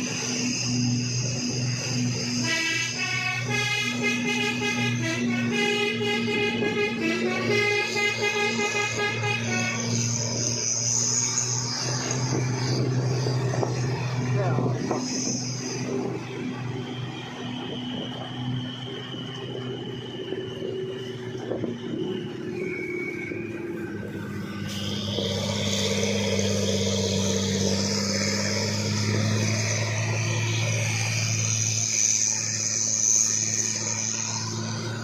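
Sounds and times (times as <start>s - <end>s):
high whine: 0.0s - 35.0s
truck diesel engine running: 0.0s - 35.0s.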